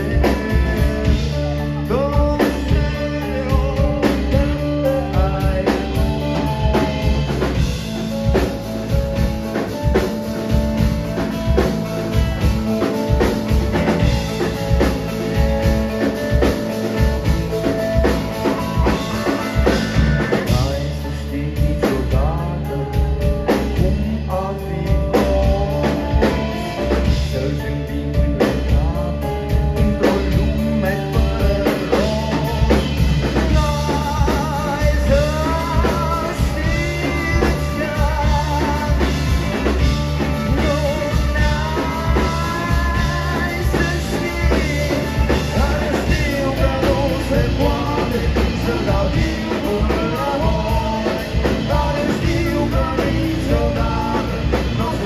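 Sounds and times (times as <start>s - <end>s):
person singing: 0.0s - 55.0s
rock band playing: 0.0s - 55.0s.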